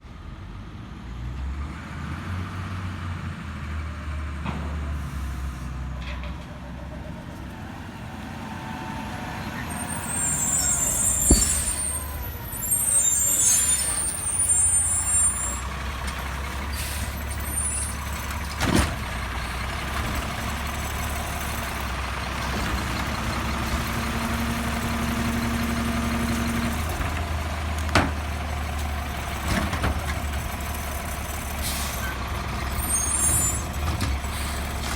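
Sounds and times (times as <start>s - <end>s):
garbage truck diesel engine: 0.0s - 34.9s.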